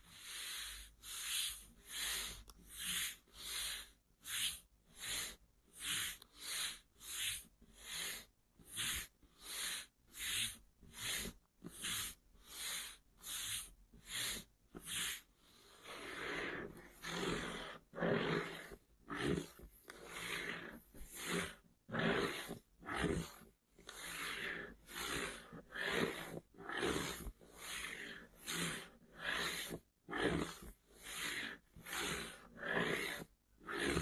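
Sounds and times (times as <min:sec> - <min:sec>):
fuller rubbing sound: 0:00.0 - 0:34.0
scratching on a box: 0:00.3 - 0:34.0.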